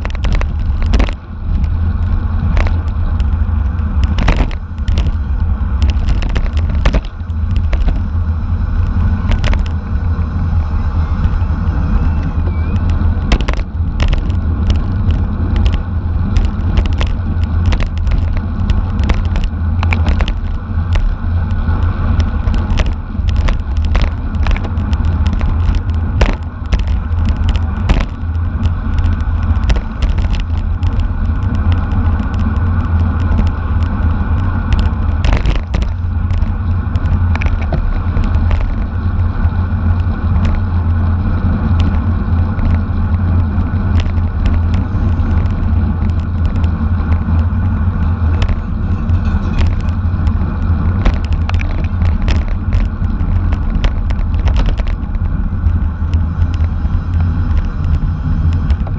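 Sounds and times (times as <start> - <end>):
sharp clicks and knocks: 0.0 - 8.1, 8.8 - 9.8, 12.2 - 39.2, 41.6 - 58.9
wind rumble on microphone: 0.0 - 58.9.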